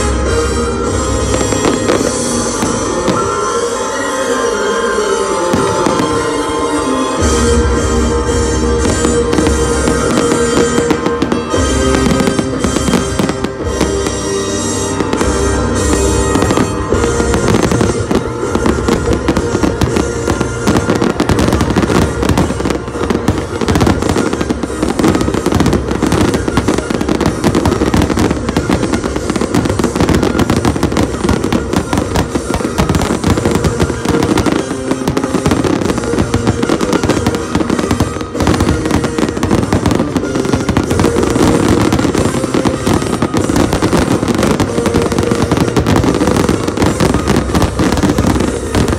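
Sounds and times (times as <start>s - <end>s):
fireworks bursts and crackles: 0.0s - 48.9s
music playing: 0.0s - 48.9s.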